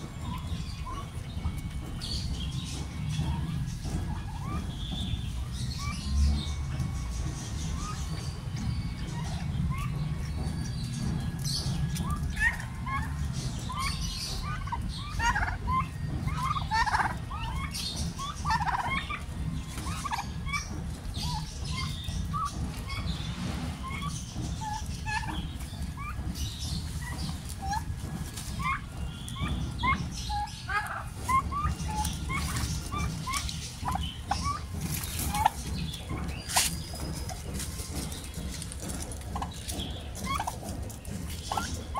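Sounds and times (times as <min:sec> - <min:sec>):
low steady rumble: 0:00.0 - 0:41.9
turkeys chirping and yelping: 0:00.0 - 0:41.9.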